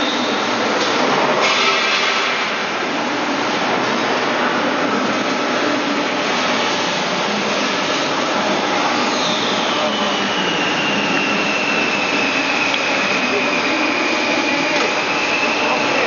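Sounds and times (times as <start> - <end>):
high whine falling in pitch: 0.0 - 16.0
loud machine noise: 0.0 - 16.0.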